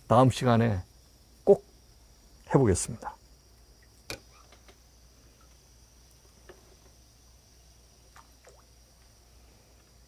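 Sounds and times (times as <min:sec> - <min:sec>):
insect chirring: 0:00.0 - 0:10.0.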